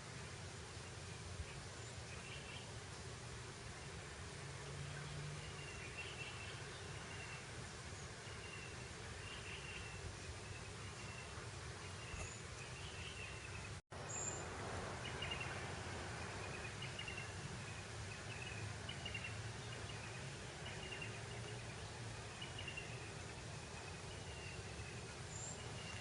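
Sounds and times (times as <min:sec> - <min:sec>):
breeze over grassland: 0:00.0 - 0:26.0.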